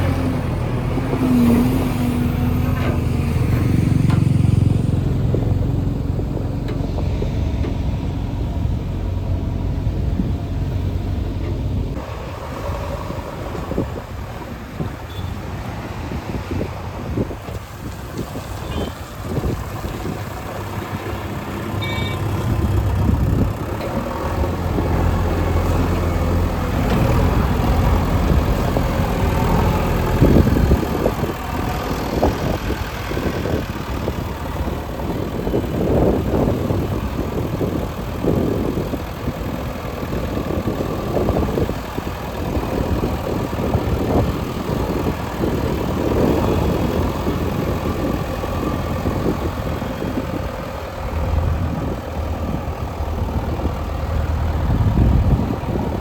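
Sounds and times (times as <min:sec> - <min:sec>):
low thumps and rumbles: 0:00.0 - 0:12.1, 0:19.2 - 0:56.0
diesel engine running: 0:00.0 - 0:56.0.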